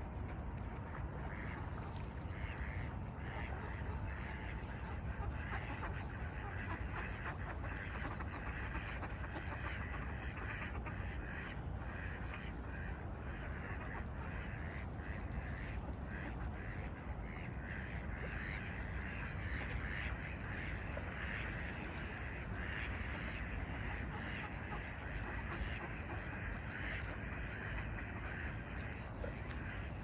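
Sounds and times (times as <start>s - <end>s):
flock of birds calling: 2.3s - 30.0s.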